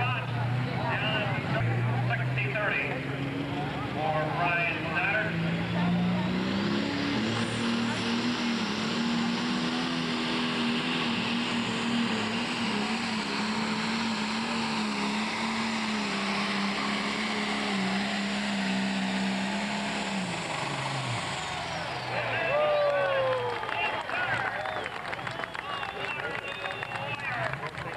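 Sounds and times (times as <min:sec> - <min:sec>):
diesel engine running flat out: 0:00.0 - 0:27.9.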